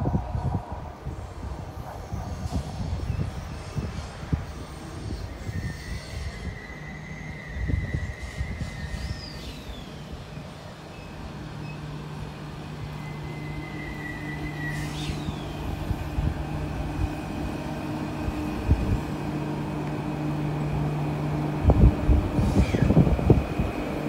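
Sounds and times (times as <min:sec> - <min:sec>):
electric train motors humming: 0:00.0 - 0:24.0.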